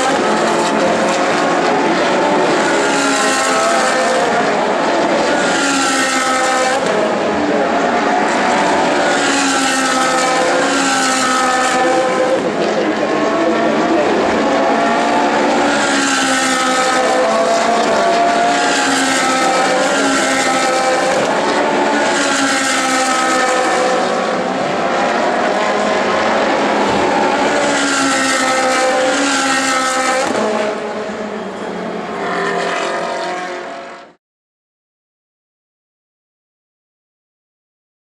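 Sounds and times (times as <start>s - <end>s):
race car engines revving: 0.0s - 34.2s.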